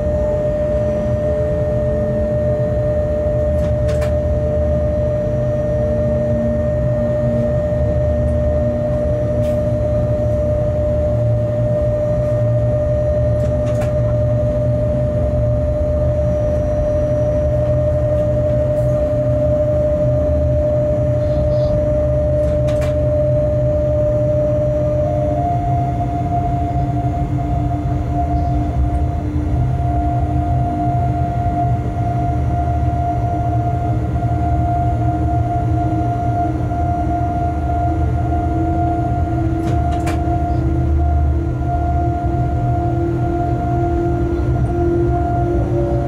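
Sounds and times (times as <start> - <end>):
constant whine: 0.0 - 46.0
locomotive cab rumble: 0.0 - 46.0.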